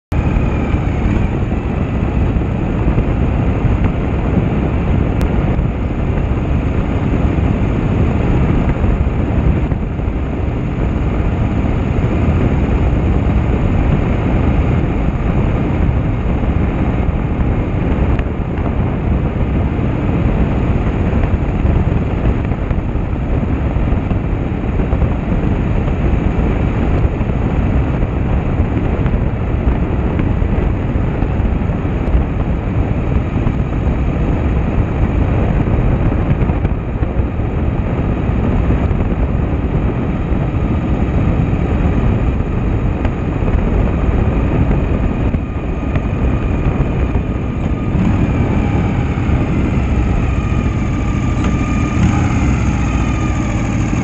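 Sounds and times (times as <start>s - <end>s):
motorcycle engine rumbling: 0.0s - 54.0s
wind noise on microphone: 0.0s - 54.0s.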